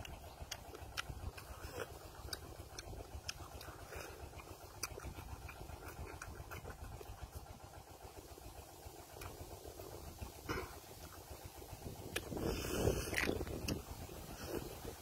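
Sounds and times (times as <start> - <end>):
chewing with clicks and smacks: 0.0 - 15.0
steady low rumble: 0.0 - 15.0.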